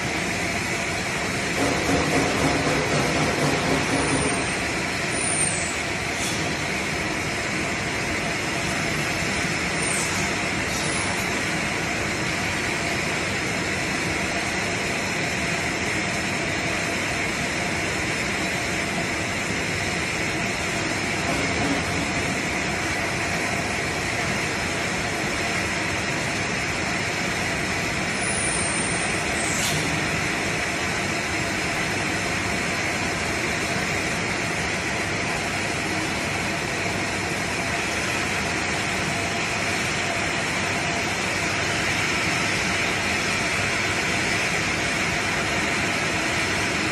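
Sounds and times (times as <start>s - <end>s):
machine with chain conveyor running: 0.0s - 46.9s.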